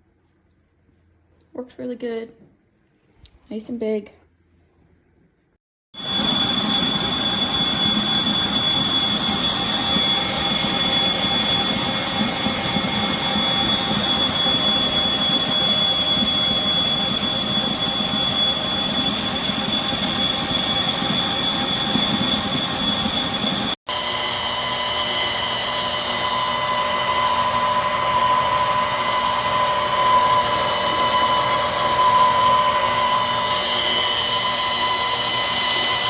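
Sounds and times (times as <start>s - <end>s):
lower whine: 6.0s - 36.0s
stand mixer whining: 6.0s - 36.0s.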